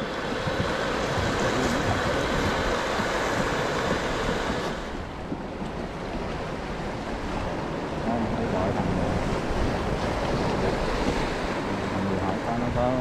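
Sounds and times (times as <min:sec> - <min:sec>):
waves washing: 0:00.0 - 0:13.0
wind buffeting microphone: 0:00.0 - 0:13.0.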